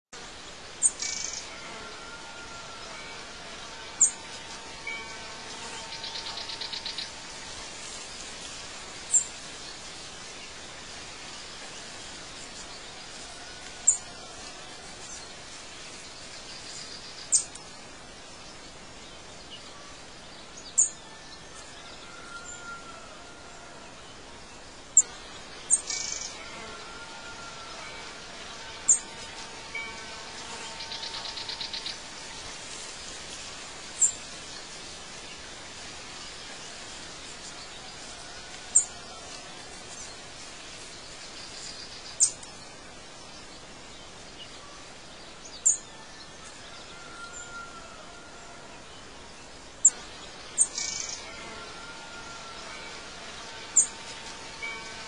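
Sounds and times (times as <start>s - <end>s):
background hiss: 0.2s - 55.0s.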